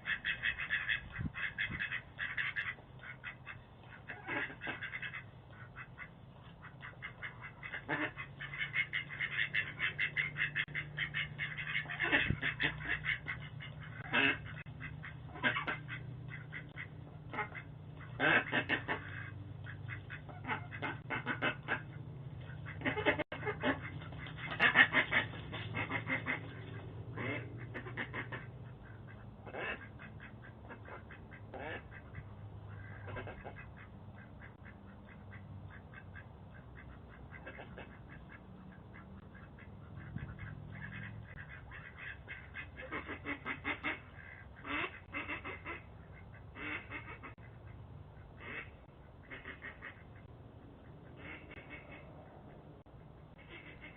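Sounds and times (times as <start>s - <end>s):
ducks quacking harshly: 0.0s - 50.3s, 51.1s - 52.1s, 53.3s - 53.9s.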